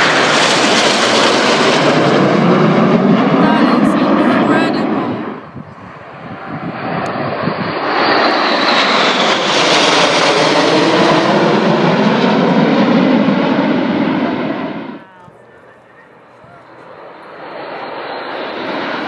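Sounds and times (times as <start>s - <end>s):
aircraft engine roar: 0.0s - 19.0s.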